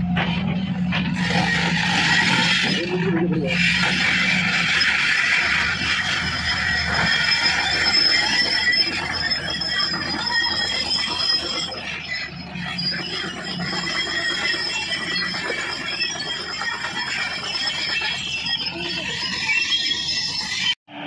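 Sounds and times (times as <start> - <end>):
crawler tracks squealing: 0.0 - 21.0.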